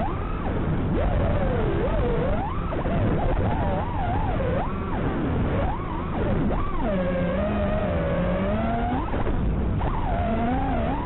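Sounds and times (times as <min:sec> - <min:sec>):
drone motors whining: 0:00.0 - 0:11.0
steady rushing noise: 0:00.0 - 0:11.0.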